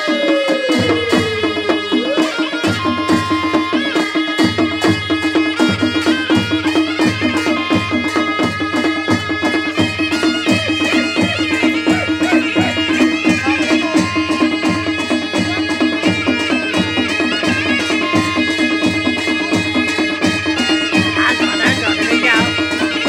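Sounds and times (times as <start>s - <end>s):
reedy melody: 0.0s - 23.0s
steady drum beat: 0.0s - 23.0s.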